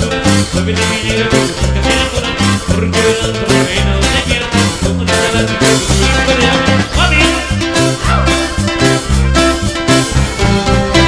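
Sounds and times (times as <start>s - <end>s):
live cumbia band playing: 0.0s - 11.0s.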